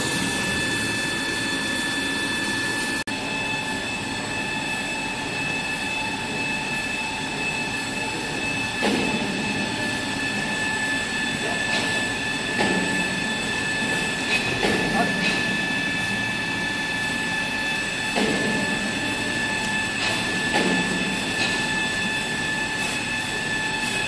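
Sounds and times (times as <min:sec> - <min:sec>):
machinery running with whine: 0:00.0 - 0:24.0.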